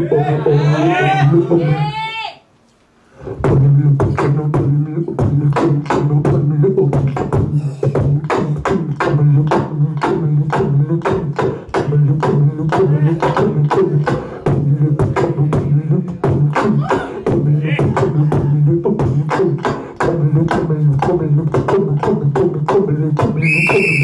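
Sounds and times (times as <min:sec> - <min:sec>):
beatboxing percussive hits: 0:03.2 - 0:24.0.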